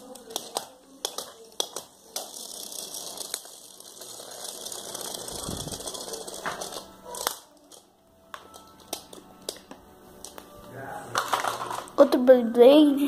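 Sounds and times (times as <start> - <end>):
spinning top whirring on tiles: 0.0 - 10.5, 11.2 - 12.0.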